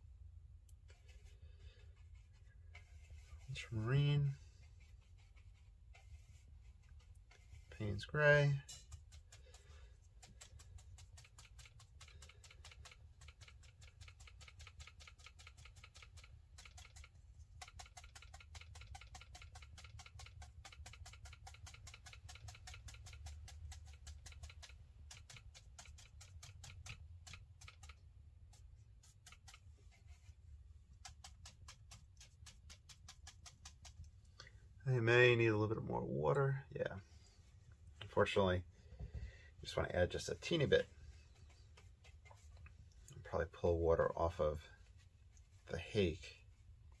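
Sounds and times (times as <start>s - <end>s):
brush dabbing on paper: 0.7s - 34.4s, 39.8s - 47.0s.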